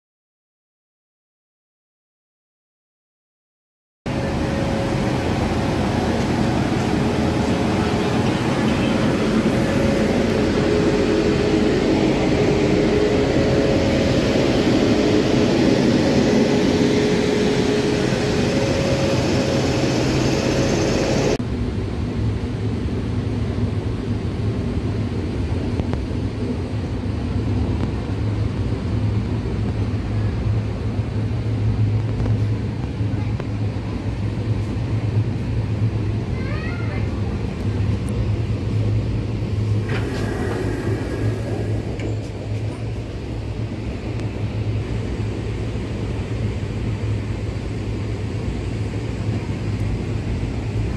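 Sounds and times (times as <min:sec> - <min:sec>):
electric locomotive whirring: 0:04.1 - 0:36.4, 0:37.0 - 0:50.9
train coach rumble and hum: 0:04.1 - 0:50.9.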